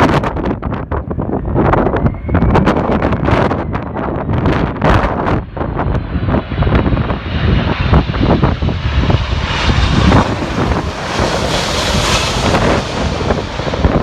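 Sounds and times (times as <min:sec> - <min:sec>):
jet airliner engine roar: 0:00.0 - 0:14.0
wind buffeting microphone: 0:00.0 - 0:14.0.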